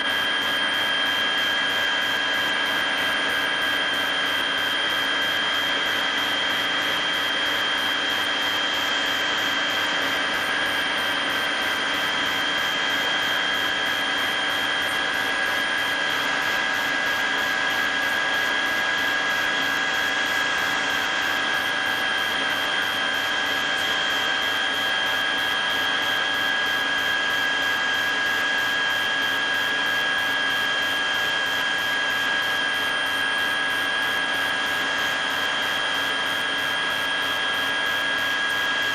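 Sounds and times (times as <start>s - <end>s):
aircraft turbine engine whine: 0.0s - 38.9s.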